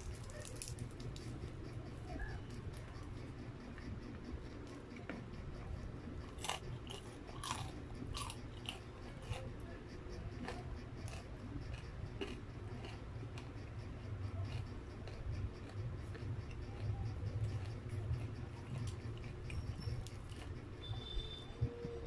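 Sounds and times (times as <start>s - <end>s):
crunchy chewing and biting: 0.0s - 22.0s
steady low hum: 0.0s - 22.0s.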